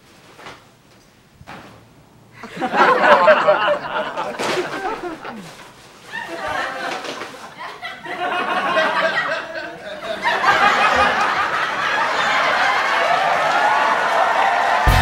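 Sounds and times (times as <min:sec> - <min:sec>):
studio audience laughter: 0:02.4 - 0:14.7.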